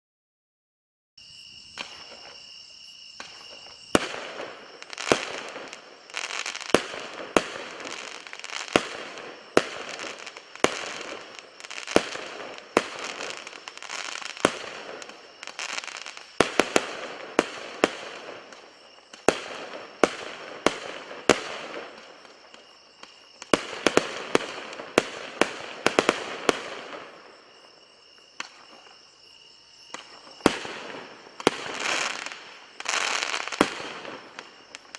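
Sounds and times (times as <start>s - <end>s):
fireworks bangs and crackling: 1.8s - 2.5s, 3.2s - 29.1s, 29.8s - 34.9s.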